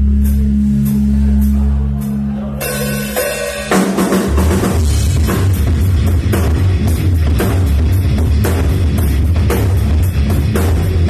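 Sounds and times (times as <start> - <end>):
drums and cymbals crashing: 0.0 - 11.0
live rock band playing: 0.0 - 11.0.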